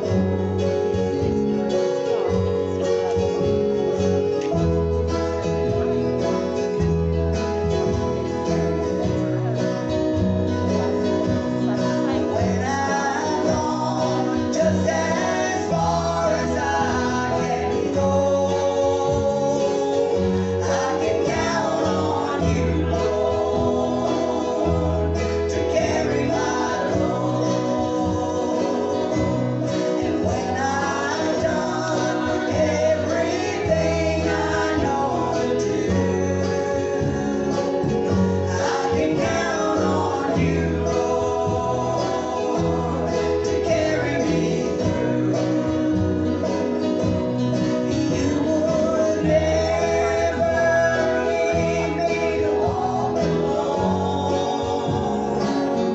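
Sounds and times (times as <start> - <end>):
gospel group singing: 0.0 - 55.9
guitar accompaniment: 0.0 - 55.9.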